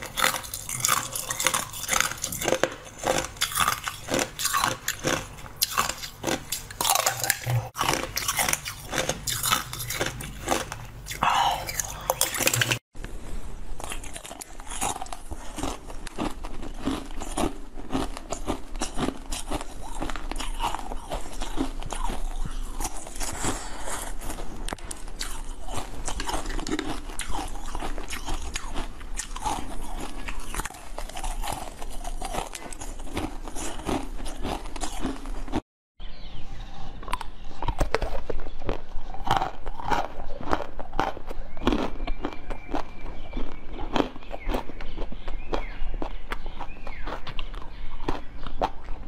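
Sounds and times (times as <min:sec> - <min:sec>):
crunching and chewing ice: 0:00.0 - 0:12.9, 0:13.6 - 0:35.6, 0:36.7 - 0:49.0.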